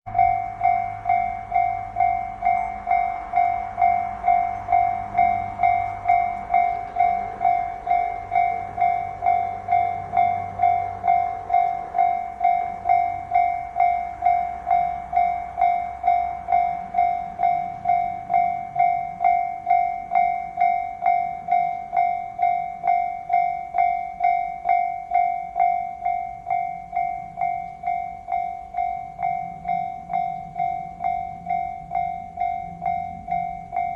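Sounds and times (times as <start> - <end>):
level crossing warning bell: 0.1 - 33.9
train engine and wheel rumble: 0.1 - 33.9.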